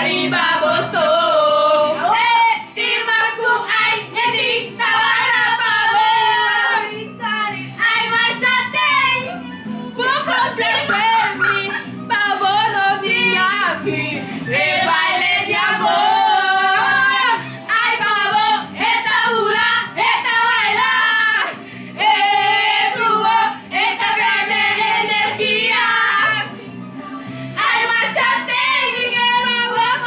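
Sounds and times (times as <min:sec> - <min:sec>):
women singing along: 0:00.0 - 0:30.0.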